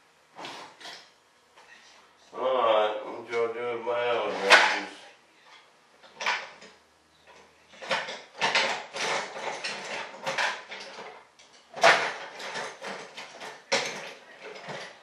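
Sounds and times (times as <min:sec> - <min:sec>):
parts and tools scraping: 0:00.4 - 0:02.1, 0:04.2 - 0:15.0.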